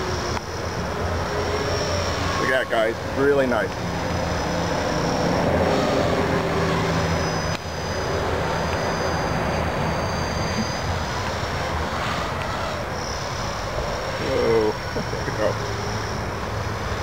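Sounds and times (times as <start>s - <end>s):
rc helicopter motor whining: 0.0s - 17.0s
rotor blades buzzing: 0.0s - 17.0s.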